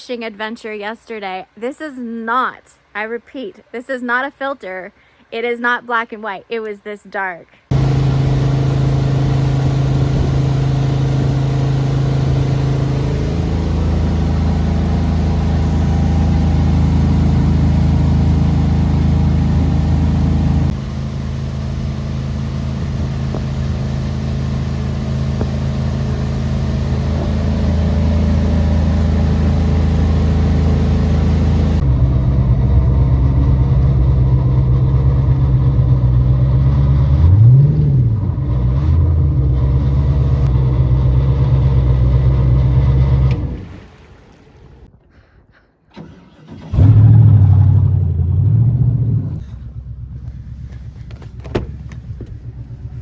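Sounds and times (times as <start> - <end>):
boat motor drone: 7.7 - 44.9, 46.7 - 53.0.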